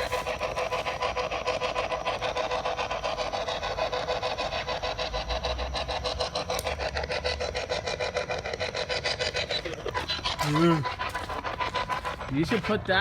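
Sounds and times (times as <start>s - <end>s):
rapid rhythmic rasping: 0.0s - 13.0s.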